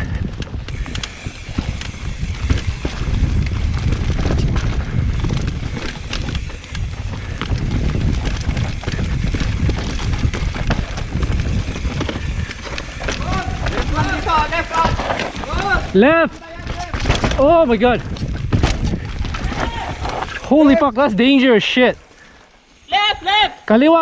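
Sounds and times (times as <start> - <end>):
wind buffeting microphone: 0.0 - 21.2
bike chain and frame clattering: 0.0 - 24.0
tyres clicking over rocks: 0.2 - 20.8.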